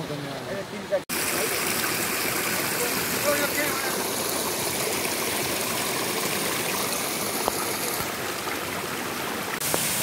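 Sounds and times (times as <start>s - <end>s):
stream water rushing: 0.0s - 10.0s.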